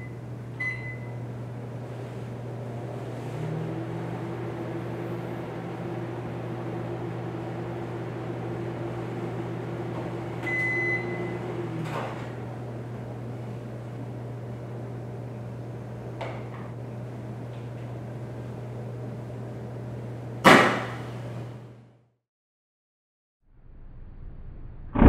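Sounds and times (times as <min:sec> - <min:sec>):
microwave oven humming: 0:00.0 - 0:22.1.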